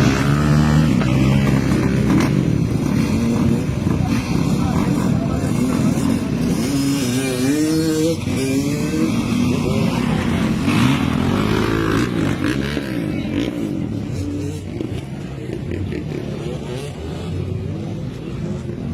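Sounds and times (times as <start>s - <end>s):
motocross motorcycle engines revving: 0.0s - 18.9s.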